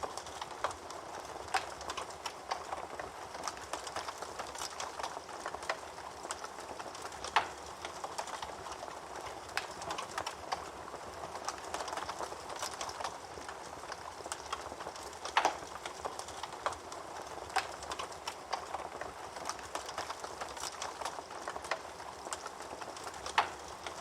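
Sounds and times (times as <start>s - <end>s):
fire snaps and pops: 0.0s - 24.0s
soft hiss of burning: 0.0s - 24.0s.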